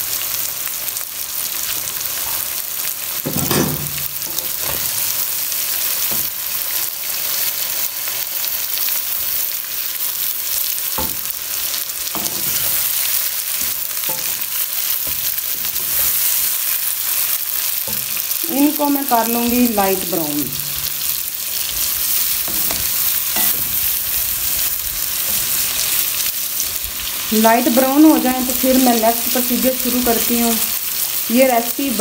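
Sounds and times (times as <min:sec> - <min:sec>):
onions sizzling in hot oil: 0:00.0 - 0:32.0.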